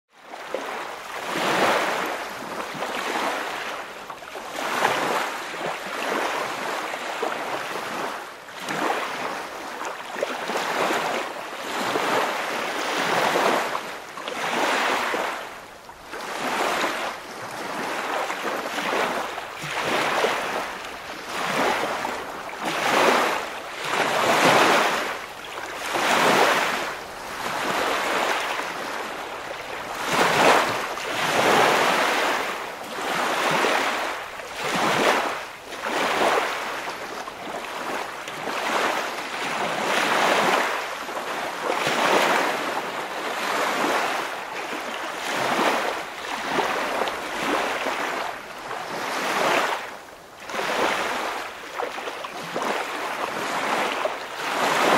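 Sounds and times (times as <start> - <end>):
waves washing in: 0.2 - 54.9.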